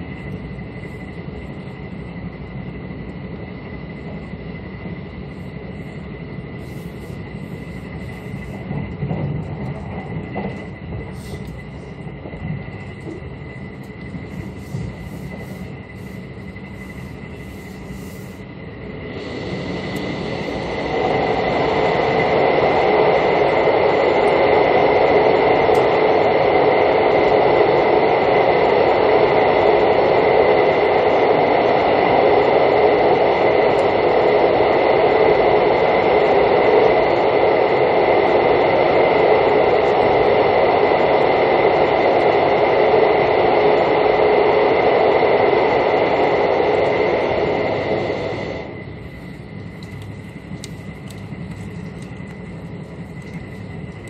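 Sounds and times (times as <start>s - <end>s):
train wheel and rail noise: 0.0s - 54.0s.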